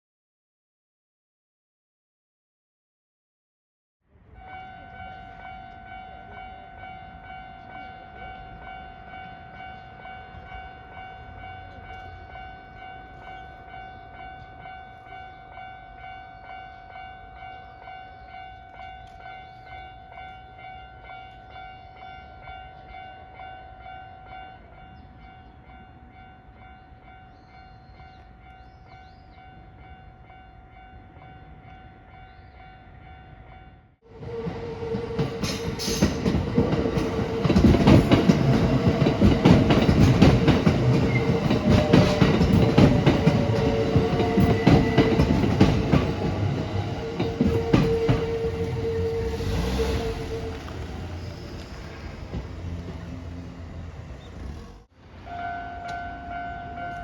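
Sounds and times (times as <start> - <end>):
level crossing warning bell: 4.4 - 51.1, 55.3 - 57.0.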